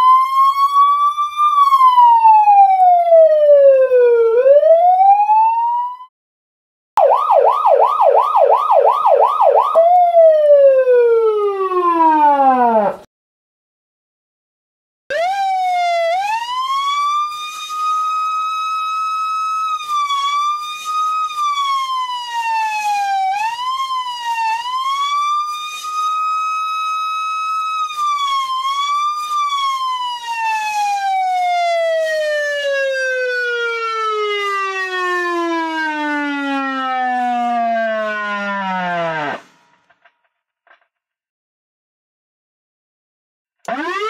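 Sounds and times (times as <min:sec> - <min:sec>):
police siren wailing: 0:00.0 - 0:06.1, 0:07.0 - 0:13.1, 0:15.1 - 0:39.6, 0:43.7 - 0:44.0.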